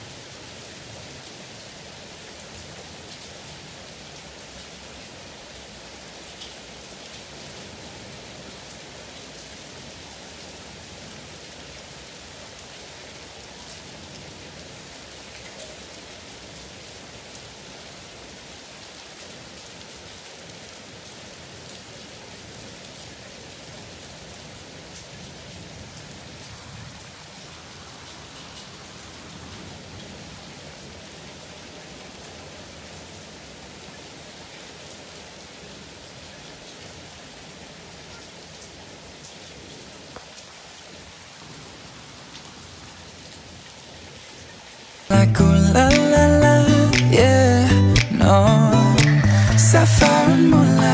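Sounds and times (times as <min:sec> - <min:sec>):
raindrops ticking on surfaces: 0:00.0 - 0:50.9
steady rain falling: 0:00.0 - 0:50.9.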